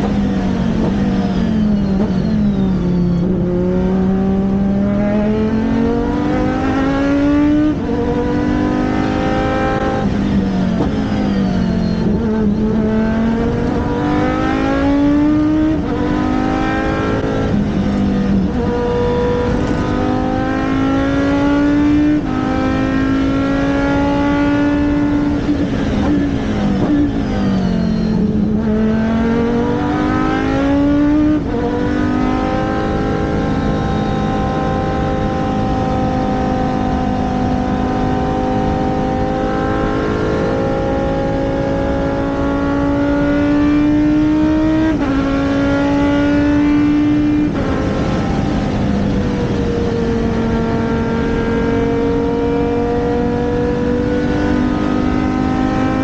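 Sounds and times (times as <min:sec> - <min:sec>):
race car engine at full load: 0:00.0 - 0:56.0.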